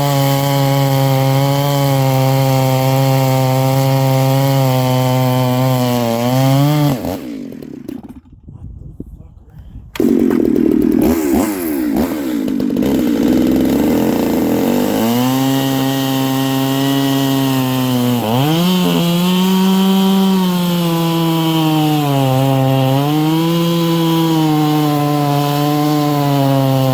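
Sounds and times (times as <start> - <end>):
chainsaw cutting wood: 0.0 - 8.4, 10.0 - 26.9.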